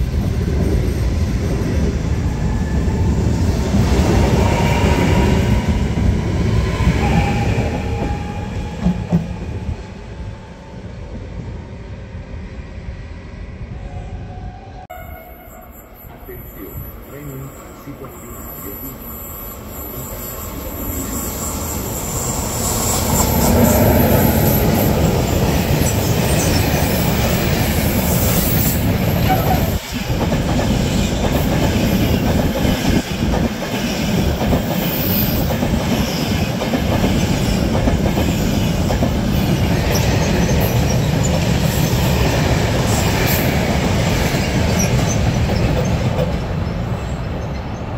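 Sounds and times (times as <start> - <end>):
train wheels rumbling on rails: 0.0 - 12.2, 16.1 - 47.9.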